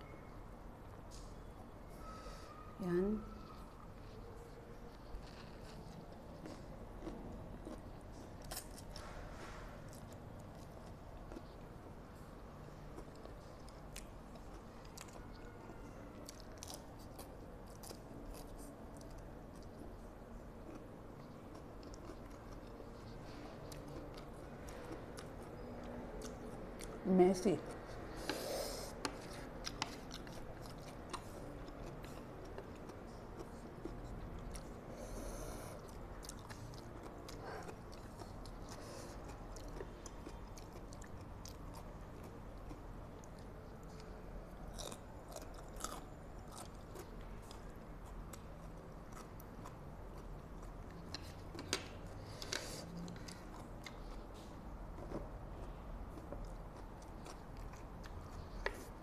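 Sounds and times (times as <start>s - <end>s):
person chewing noodles: 3.5s - 59.0s.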